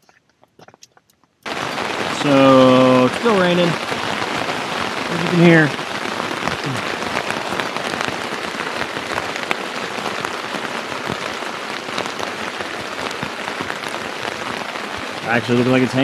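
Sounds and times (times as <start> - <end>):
rain on a tent: 0.0 - 16.0.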